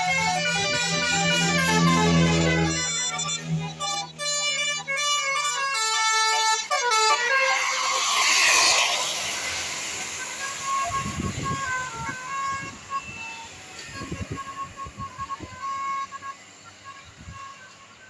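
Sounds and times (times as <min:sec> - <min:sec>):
multi-tone air horn melody: 0:00.0 - 0:18.0
vehicle passing rush: 0:00.0 - 0:18.0.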